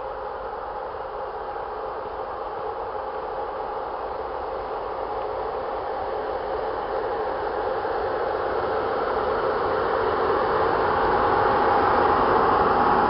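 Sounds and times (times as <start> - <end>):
electric locomotive hauling train: 0.0 - 13.0.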